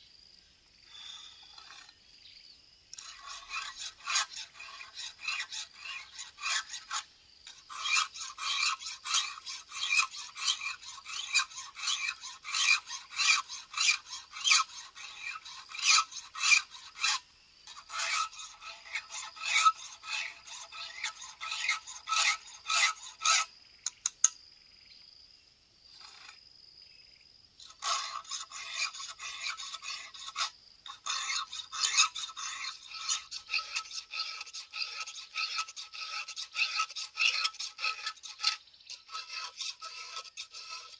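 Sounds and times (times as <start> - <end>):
file rasping on chainsaw chain: 1.3 - 2.0, 3.0 - 23.5, 27.6 - 40.9.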